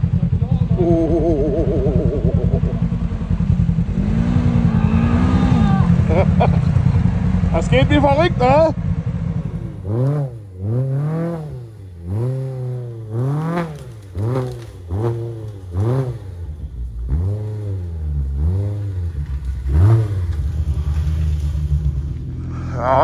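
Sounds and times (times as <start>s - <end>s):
engine revving: 0.0s - 23.0s
low engine rumble: 0.0s - 23.0s.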